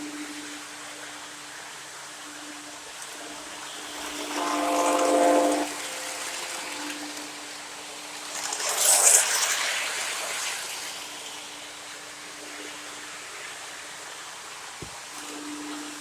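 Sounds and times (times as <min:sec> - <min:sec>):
faint motor hum: 0:00.0 - 0:16.0
model train rolling on track: 0:02.8 - 0:16.0.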